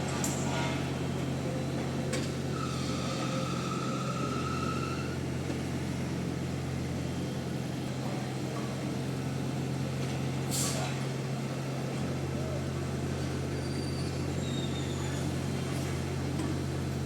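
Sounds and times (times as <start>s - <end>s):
construction equipment engine humming: 0.0s - 17.0s.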